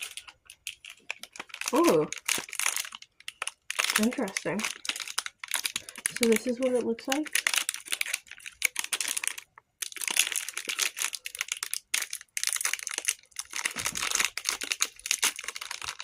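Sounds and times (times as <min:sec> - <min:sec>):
snack packaging crinkling: 0:00.0 - 0:16.0.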